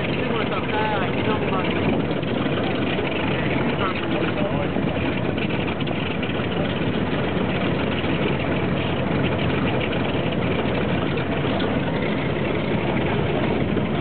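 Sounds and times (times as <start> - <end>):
aircraft radial engines idling: 0.0 - 14.0.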